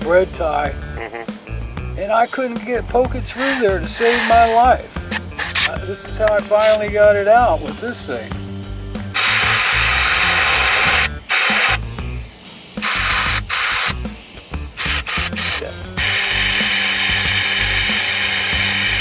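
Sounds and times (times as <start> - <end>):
background music: 0.0 - 19.0
compressed air hissing from nozzle: 0.0 - 19.0.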